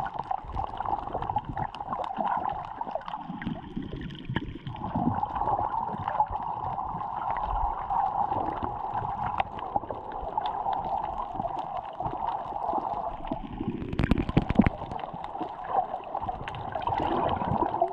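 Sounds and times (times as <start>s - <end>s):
underwater hum and gurgling: 0.0s - 17.9s.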